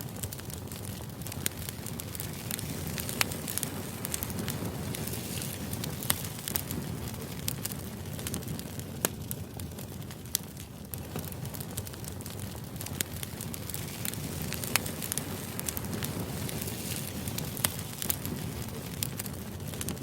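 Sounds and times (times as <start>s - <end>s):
sharp crackles and pops: 0.0s - 20.0s.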